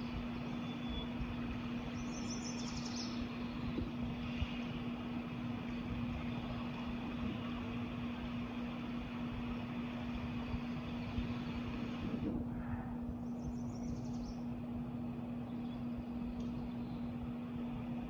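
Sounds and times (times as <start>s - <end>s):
steady mechanical drone: 0.0s - 18.0s.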